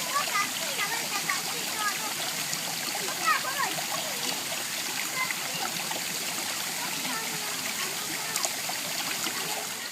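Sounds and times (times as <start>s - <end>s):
waterfall splashing: 0.0s - 9.9s.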